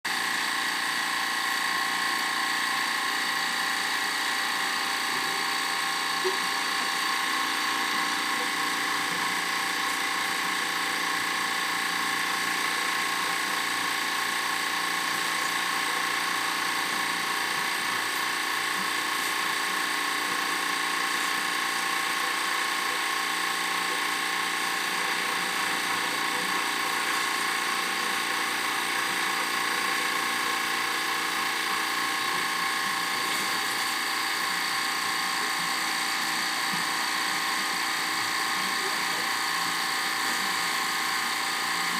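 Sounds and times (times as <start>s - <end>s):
drain-cleaning machine whining: 0.0s - 41.9s.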